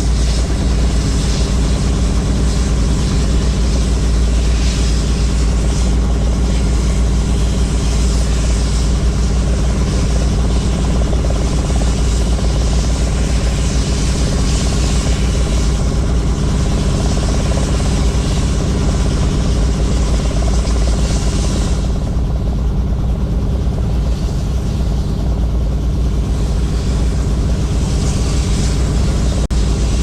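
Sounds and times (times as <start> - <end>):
helicopter rotor and engine drone: 0.0 - 30.0.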